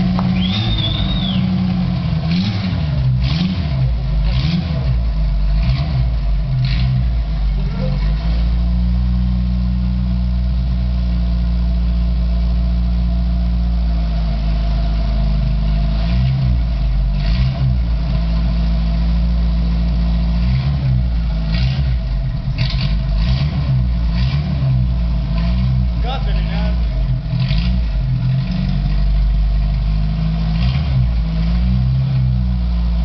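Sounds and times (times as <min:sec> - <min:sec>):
buggy engine idling and revving: 0:00.0 - 0:33.0.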